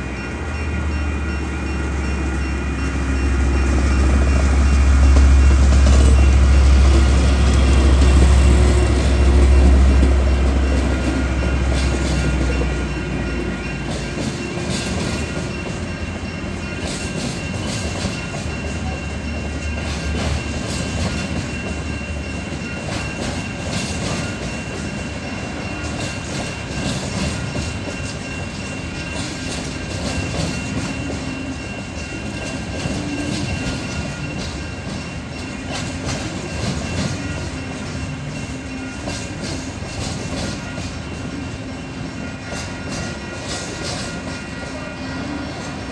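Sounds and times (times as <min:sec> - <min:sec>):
diesel locomotive rumble: 0:00.0 - 0:45.9
wagons clickety-clack: 0:03.7 - 0:45.9.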